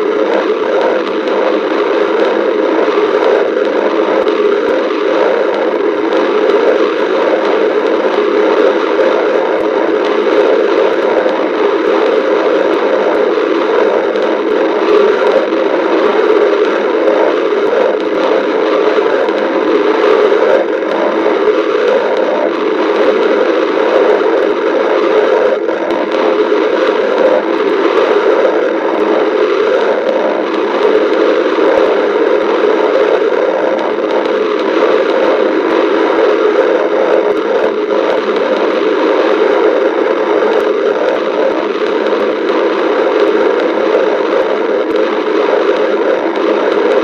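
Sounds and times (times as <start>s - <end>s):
stomach growling: 0.0s - 47.0s.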